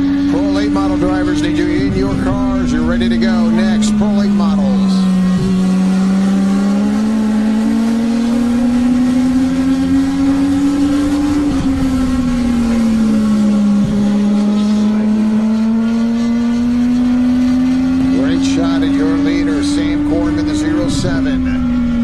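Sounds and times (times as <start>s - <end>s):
fainter race car engines: 0.0s - 22.0s
race car engine revving: 0.0s - 22.0s.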